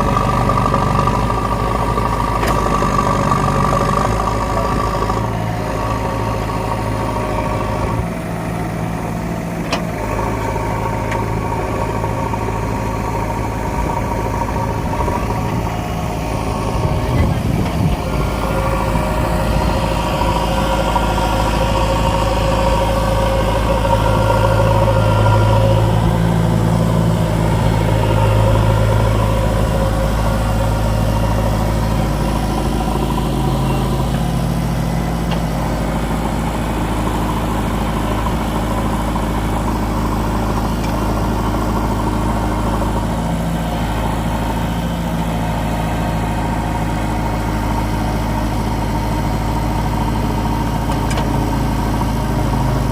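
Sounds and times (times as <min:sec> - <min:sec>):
diesel engine running near idle: 0:00.0 - 0:52.9.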